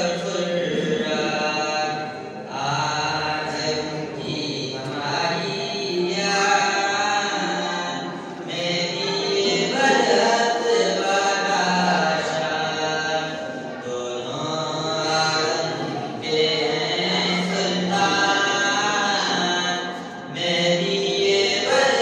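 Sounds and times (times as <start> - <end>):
boy singing into microphone: 0.0 - 22.0.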